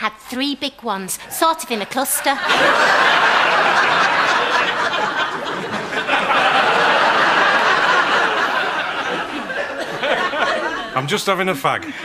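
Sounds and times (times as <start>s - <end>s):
studio audience laughing: 1.5s - 12.0s.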